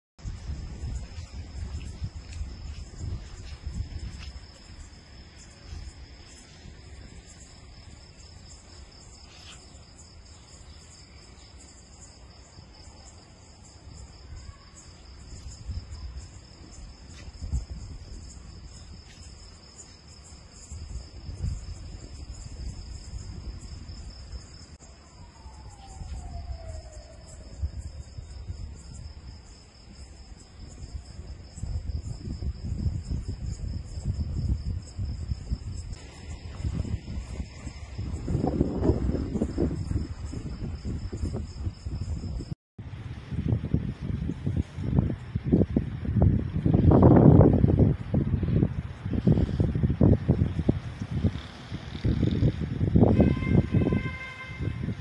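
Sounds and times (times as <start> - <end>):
crickets chirping: 0.2 - 55.0.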